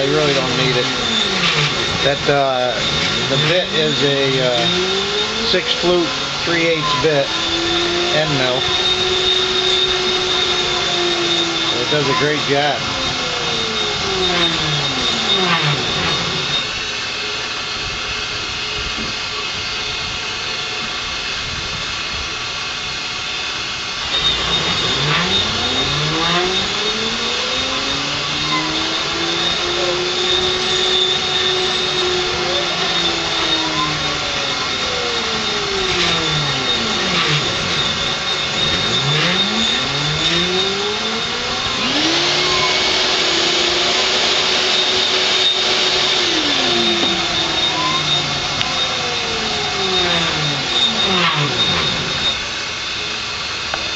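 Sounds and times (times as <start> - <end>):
axis motors whining: 0.0 - 19.9, 23.9 - 53.9
milling spindle whine: 0.0 - 21.3, 21.9 - 53.9
end mill cutting aluminum hiss: 0.0 - 53.9.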